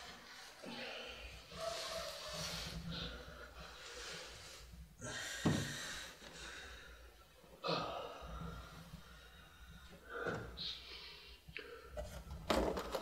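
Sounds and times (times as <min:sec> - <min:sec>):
man breathing heavily: 0:00.1 - 0:12.1.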